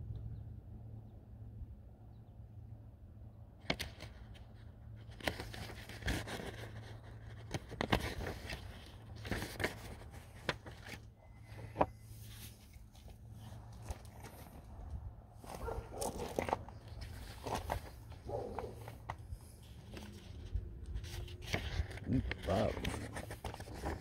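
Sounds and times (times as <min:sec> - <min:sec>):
rustling and scraping: 0:03.6 - 0:24.0.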